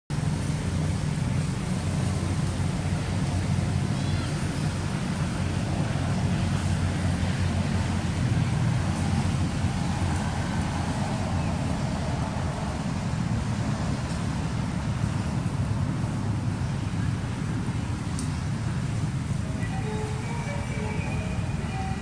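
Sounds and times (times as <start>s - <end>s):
low rumbling noise: 0.1s - 22.0s.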